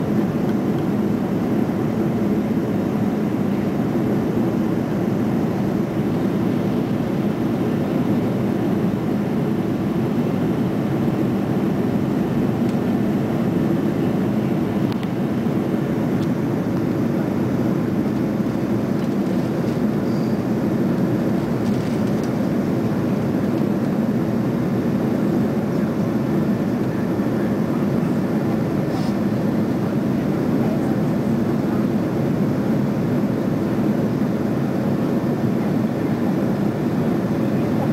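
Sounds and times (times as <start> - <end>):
airplane cabin engine rush: 0.0 - 37.9.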